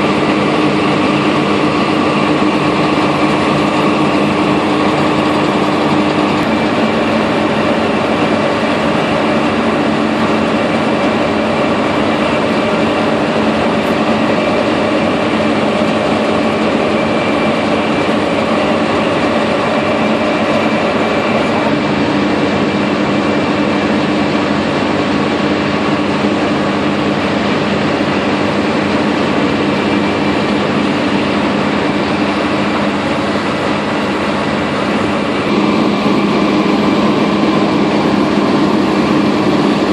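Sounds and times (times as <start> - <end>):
drilling rig machinery drone: 0.0 - 39.9.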